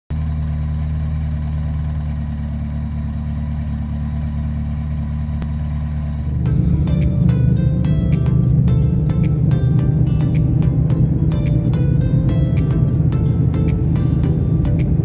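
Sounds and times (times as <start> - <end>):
car engine idling: 0.1 - 15.0.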